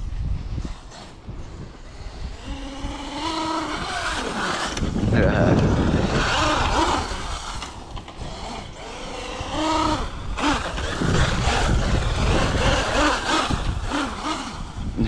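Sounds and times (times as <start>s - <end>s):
electric motor whining: 0.0s - 15.0s
tires scrabbling through dirt: 0.0s - 15.0s.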